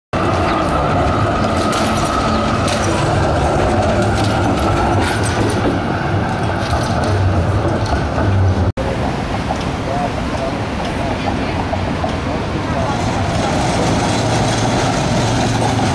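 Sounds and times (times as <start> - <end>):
city traffic: 0.1 - 15.9
electric tram rumbling past: 0.2 - 15.9.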